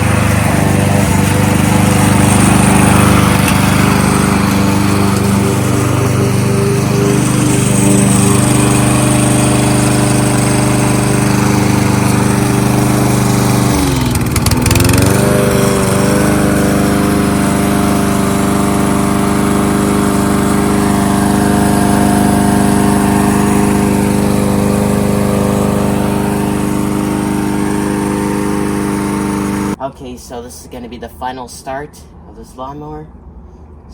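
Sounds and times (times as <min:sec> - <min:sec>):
lawnmower engine running: 0:00.0 - 0:29.8.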